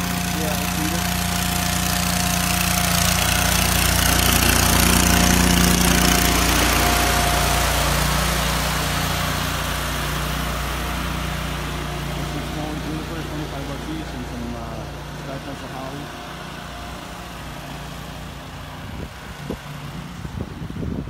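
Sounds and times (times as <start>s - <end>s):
small loader engine driving past: 0.0s - 21.0s.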